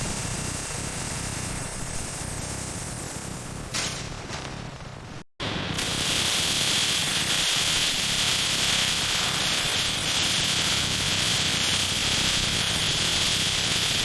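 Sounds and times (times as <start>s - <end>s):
steady static hiss: 0.0s - 14.0s.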